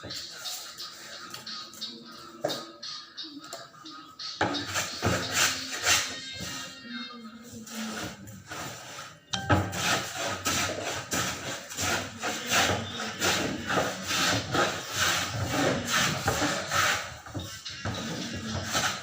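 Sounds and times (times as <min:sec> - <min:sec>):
rhythmic scraping strokes: 0:00.0 - 0:19.0.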